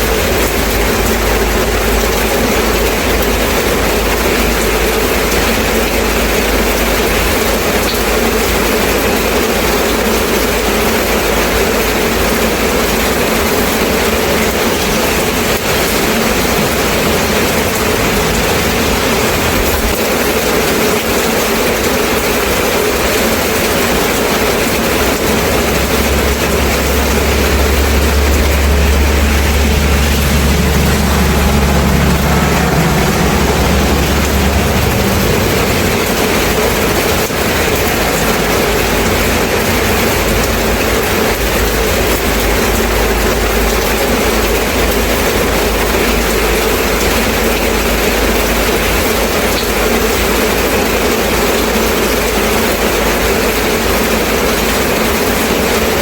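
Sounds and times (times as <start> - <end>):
low engine rumble: 0.0 - 56.0
rain falling: 0.0 - 56.0.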